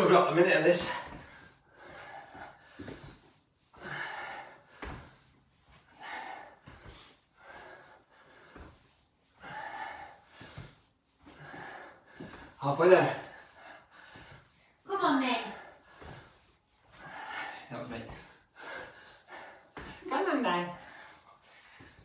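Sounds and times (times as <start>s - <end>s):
soft footfalls on rubber floor: 0.0s - 3.7s, 4.6s - 9.3s, 10.0s - 17.0s, 19.7s - 22.0s
man breathing hard: 0.6s - 20.1s, 20.8s - 22.0s.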